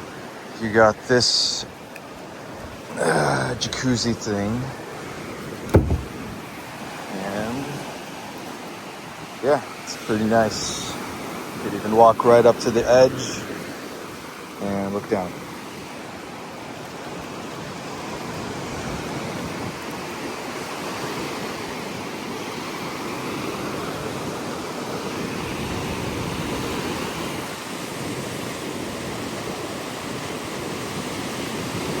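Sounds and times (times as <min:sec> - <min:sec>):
ocean surf rushing: 0:00.0 - 0:32.0.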